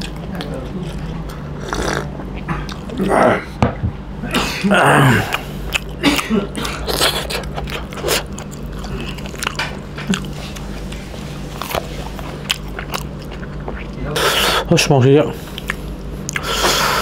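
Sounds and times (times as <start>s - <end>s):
person chewing food: 0.0s - 3.3s, 4.9s - 14.7s, 15.4s - 17.0s.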